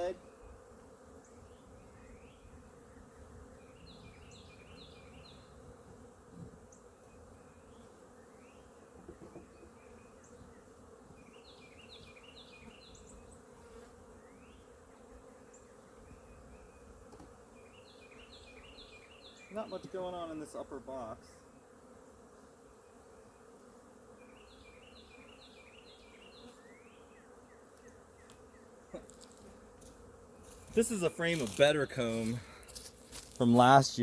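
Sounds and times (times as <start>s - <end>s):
honey bees buzzing: 0.0s - 34.0s.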